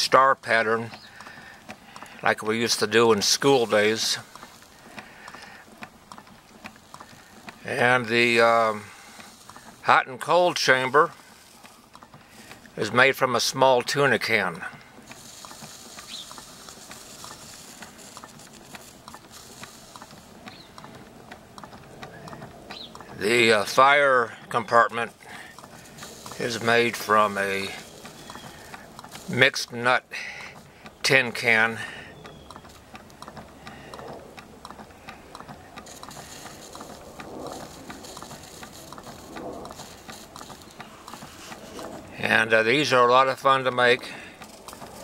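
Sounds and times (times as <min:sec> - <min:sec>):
small engine clicking: 0:00.0 - 0:45.0.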